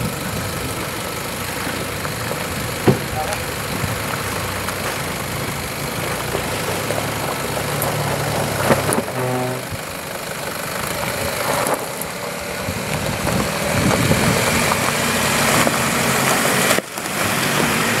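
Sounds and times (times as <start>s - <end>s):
car engine running at low revs: 0.0s - 18.0s.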